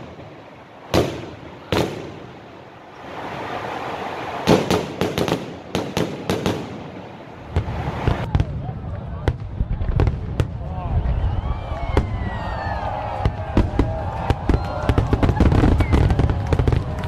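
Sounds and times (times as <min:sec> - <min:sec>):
fireworks bangs: 0:00.0 - 0:02.5, 0:04.3 - 0:17.0
crackling firework reports: 0:00.0 - 0:02.6, 0:03.2 - 0:17.0
rising rush of firework: 0:03.1 - 0:17.0.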